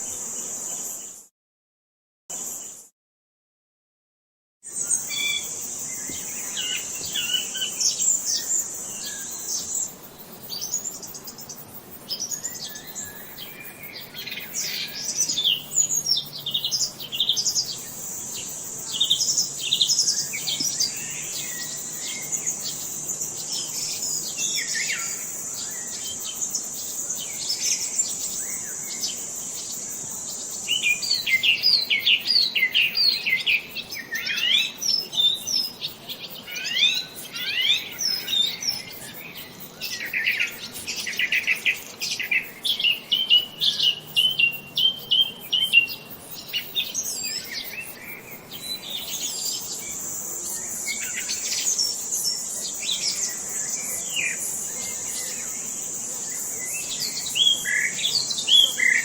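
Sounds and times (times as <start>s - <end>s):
songbirds chirping and twittering: 4.6s - 59.0s.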